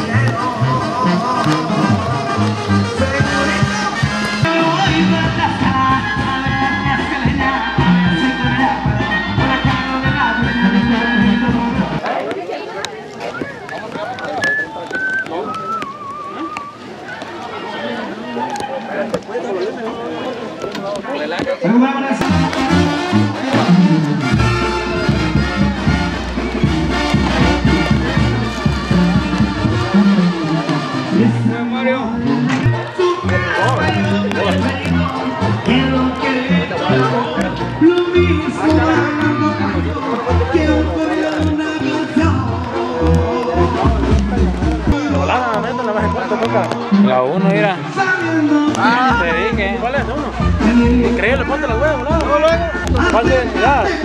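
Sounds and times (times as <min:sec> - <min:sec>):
low steady bass: 0:00.0 - 0:12.0, 0:22.2 - 0:54.0
latin music: 0:00.0 - 0:12.2, 0:21.7 - 0:54.0.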